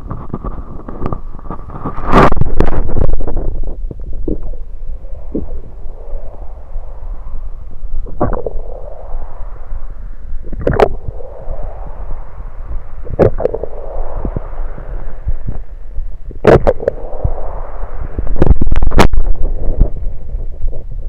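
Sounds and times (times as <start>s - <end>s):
low stomach rumble: 0.0s - 21.0s
stomach gurgling: 0.0s - 21.0s.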